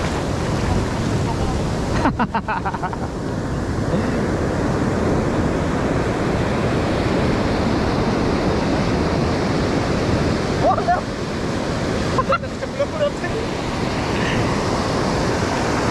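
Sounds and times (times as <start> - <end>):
waves breaking: 0.0 - 15.9.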